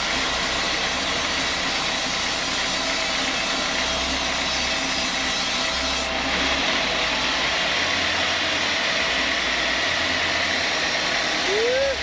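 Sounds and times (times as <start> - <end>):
sawmill machinery droning: 0.0 - 12.0.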